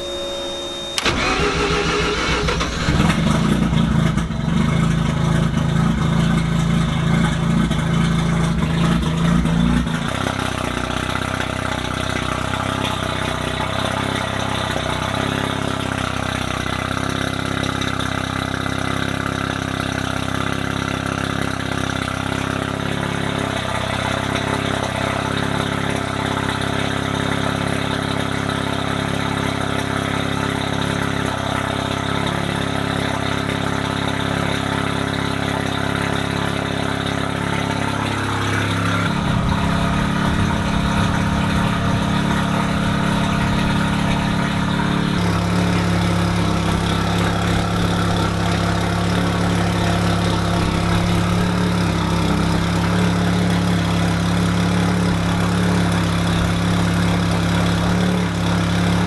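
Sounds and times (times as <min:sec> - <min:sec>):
rotary engine starting and idling: 0:00.0 - 0:59.0.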